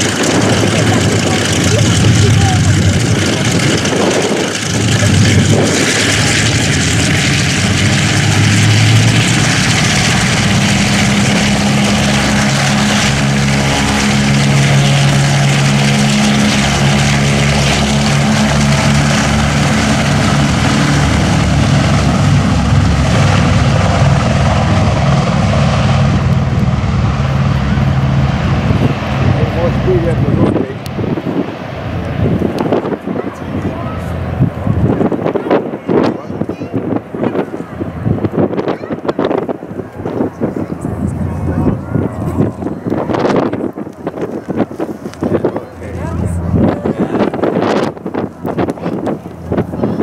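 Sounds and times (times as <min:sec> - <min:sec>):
propeller aircraft engines droning: 0:00.0 - 0:50.0.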